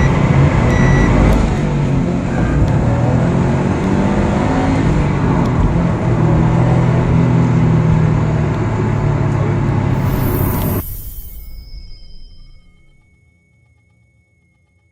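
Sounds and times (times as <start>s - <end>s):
car engine and exhaust under load: 0.0s - 13.1s.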